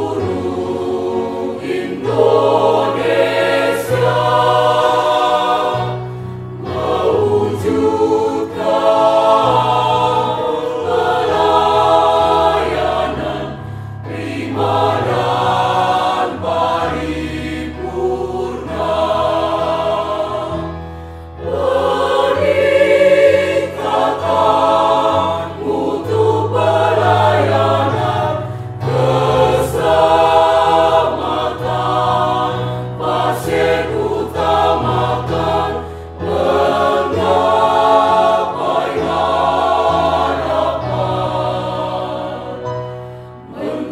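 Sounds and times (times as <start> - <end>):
mixed choir singing: 0.0 - 43.9.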